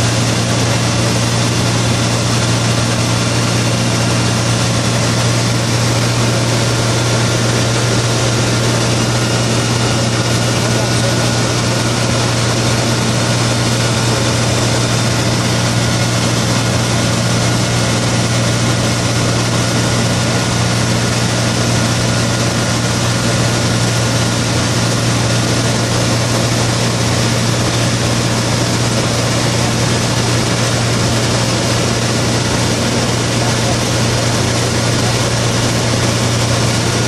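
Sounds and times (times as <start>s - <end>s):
light aircraft engine in cabin: 0.0s - 37.0s.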